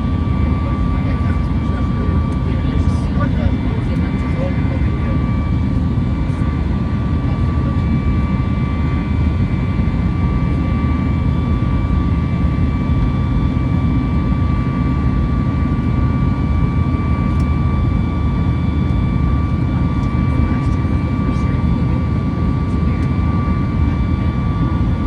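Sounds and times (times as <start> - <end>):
jet engine cabin rumble: 0.0 - 25.0.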